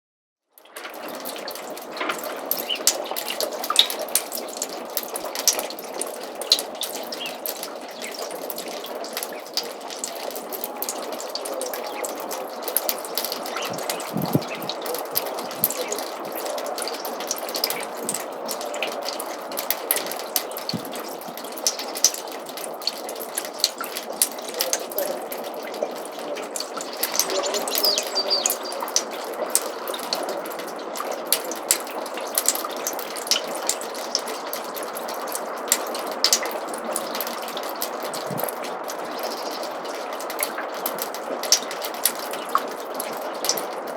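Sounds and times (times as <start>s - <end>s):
water trickling in gutter: 0.5s - 43.9s
sharp water drips: 0.6s - 43.9s.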